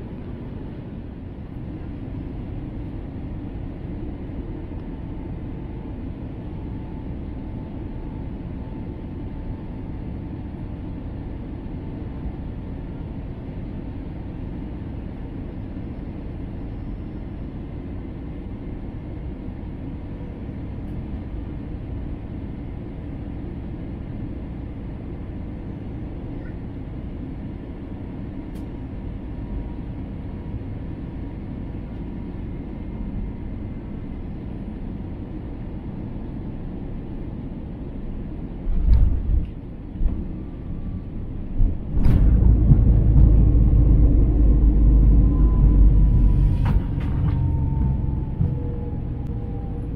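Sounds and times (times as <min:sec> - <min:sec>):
airliner cabin rumble: 0:00.0 - 0:49.9
faint steady whine: 0:00.0 - 0:49.9.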